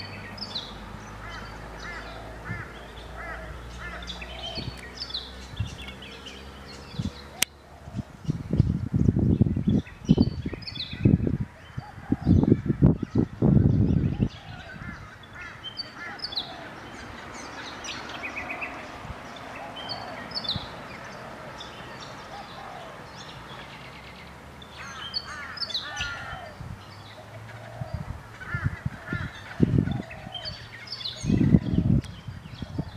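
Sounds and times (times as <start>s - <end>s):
birds chirping and trilling: 0.0s - 32.9s.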